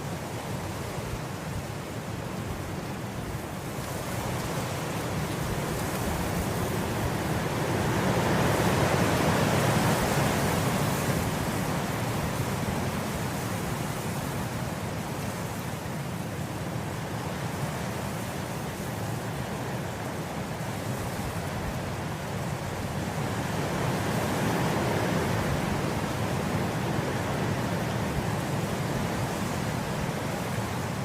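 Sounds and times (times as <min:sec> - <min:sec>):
wind rustling grass: 0:00.0 - 0:31.0.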